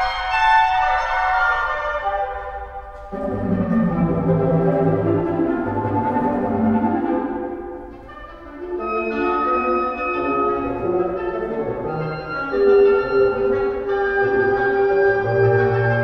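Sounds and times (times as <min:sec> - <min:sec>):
instrumental music with held notes: 0:00.0 - 0:16.0.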